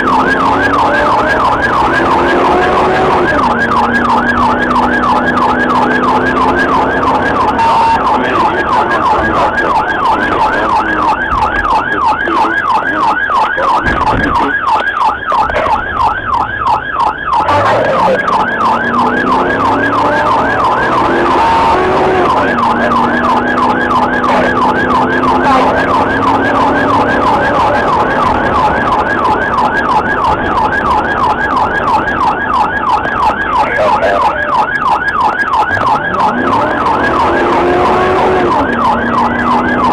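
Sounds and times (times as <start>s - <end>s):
car engine and road noise: 0.0s - 39.9s
police siren yelping: 0.0s - 39.9s.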